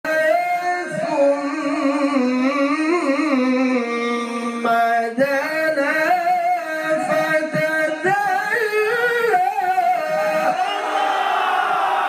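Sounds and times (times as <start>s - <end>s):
man chanting recitation: 0.1s - 10.7s.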